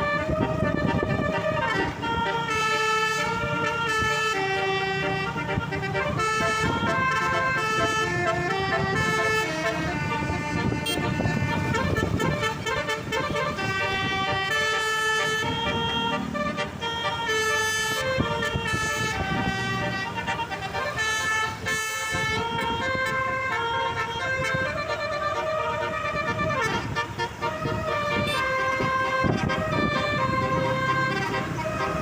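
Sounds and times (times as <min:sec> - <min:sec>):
musical air horn melody: 0:00.0 - 0:32.0.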